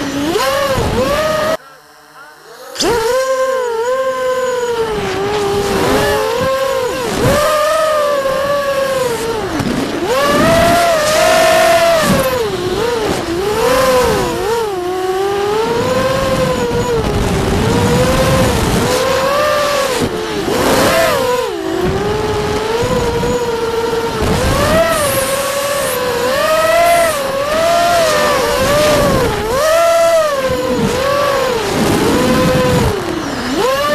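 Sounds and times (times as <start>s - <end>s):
quadcopter motors whining: 0.0s - 33.9s.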